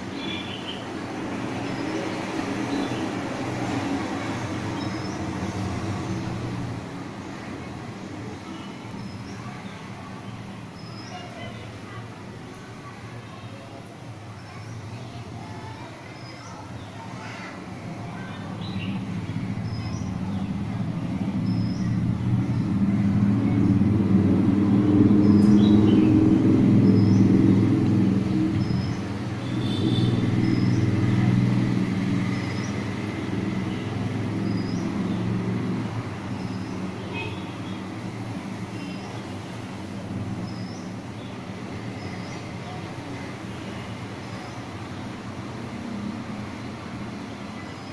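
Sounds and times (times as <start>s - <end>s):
passing vehicle engine rumble: 0.0s - 12.6s, 14.8s - 47.9s.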